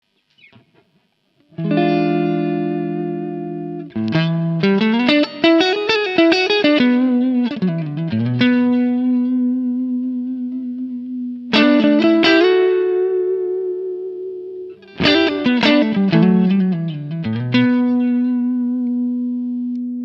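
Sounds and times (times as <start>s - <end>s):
overdriven electric guitar: 0.3s - 20.0s.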